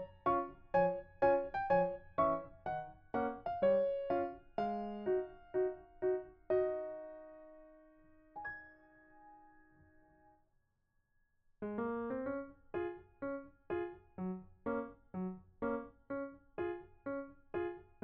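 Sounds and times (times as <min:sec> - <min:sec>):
background piano music: 0:00.0 - 0:10.4, 0:11.6 - 0:18.0.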